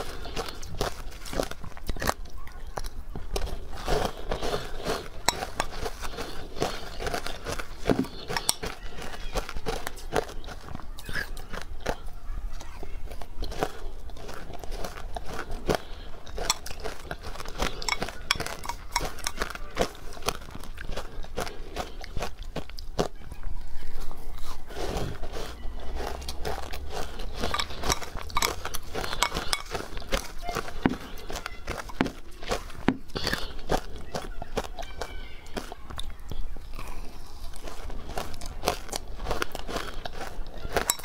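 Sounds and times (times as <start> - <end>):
crunching and chewing ice: 0.0 - 41.0.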